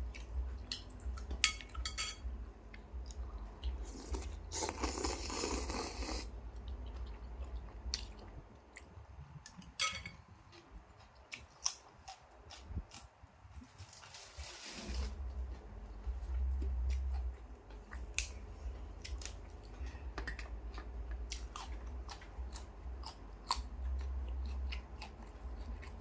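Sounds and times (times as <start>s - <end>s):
person chewing and smacking: 0.0s - 1.8s, 2.6s - 9.8s, 10.5s - 13.1s, 15.2s - 26.0s.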